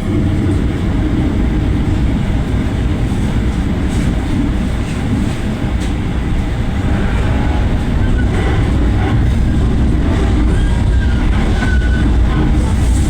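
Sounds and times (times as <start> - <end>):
train rumbling through station: 0.0 - 13.0.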